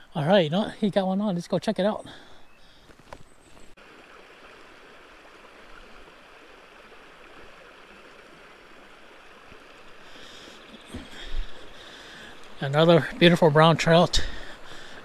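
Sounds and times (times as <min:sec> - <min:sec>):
creek water rushing: 0:02.0 - 0:15.0.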